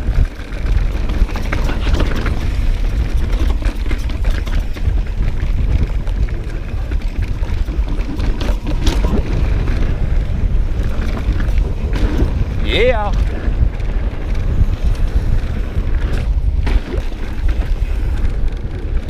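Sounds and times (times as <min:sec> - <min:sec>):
bike rattling over rocks: 0:00.0 - 0:19.0
wind buffeting microphone: 0:00.0 - 0:19.0.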